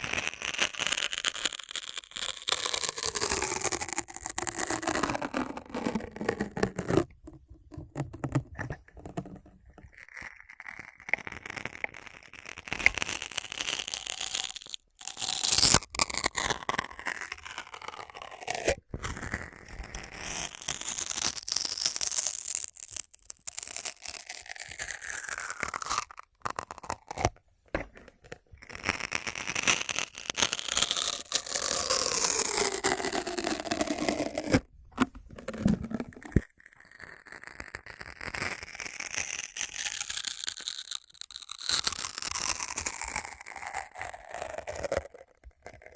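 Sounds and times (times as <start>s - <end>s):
scratching and rubbing on surface: 0.0s - 45.9s.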